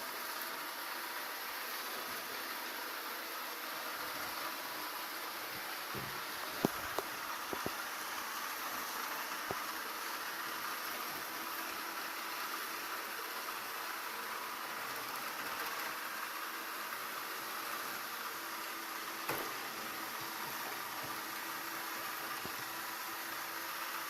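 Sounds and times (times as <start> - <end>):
robot vacuum cleaner whirring: 0.1 - 24.0.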